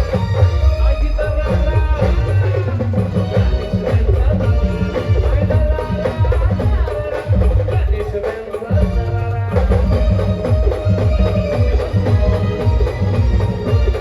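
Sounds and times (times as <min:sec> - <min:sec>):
heavy drum beats: 0:00.0 - 0:14.0
live band playing: 0:00.0 - 0:14.0.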